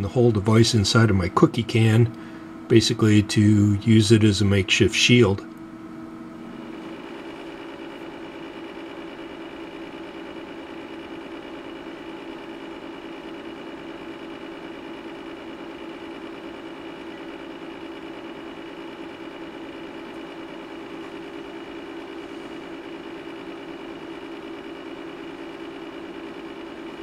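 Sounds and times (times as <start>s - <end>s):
cooling fans humming: 0.0s - 27.0s.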